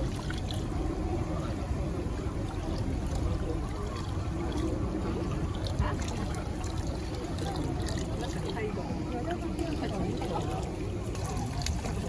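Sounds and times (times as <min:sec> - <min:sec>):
water trickling and sloshing: 0:00.0 - 0:12.0.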